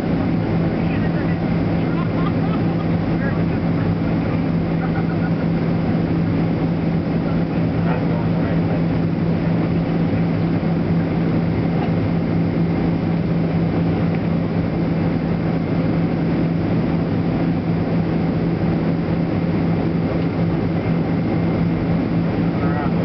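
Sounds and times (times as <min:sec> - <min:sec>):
airplane cabin roar: 0:00.0 - 0:23.0
low engine hum: 0:00.0 - 0:23.0.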